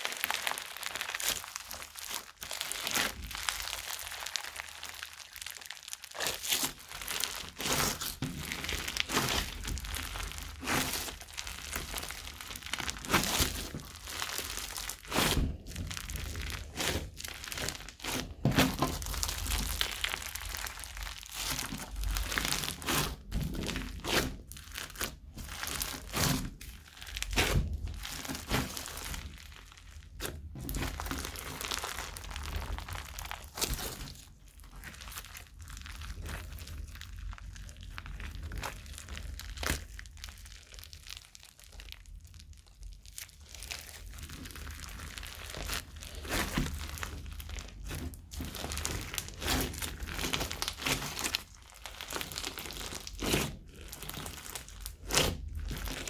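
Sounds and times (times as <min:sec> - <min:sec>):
crunchy slime being kneaded: 0:00.0 - 0:56.0.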